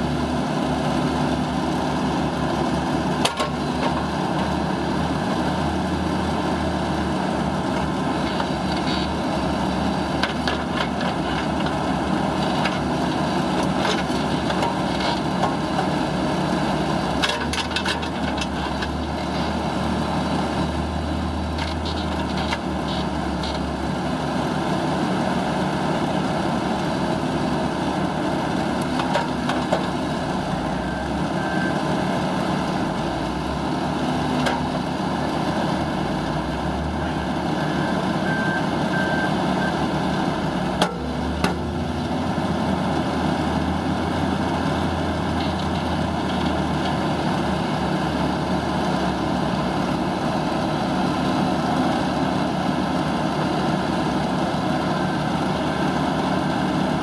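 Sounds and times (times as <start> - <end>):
loader engine running: 0.0 - 57.0.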